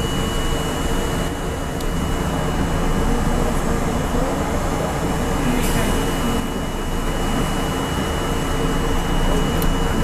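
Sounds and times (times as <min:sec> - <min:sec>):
high-pitched whine: 0:00.0 - 0:10.0
subway car wheels rumbling on rails: 0:00.0 - 0:10.0.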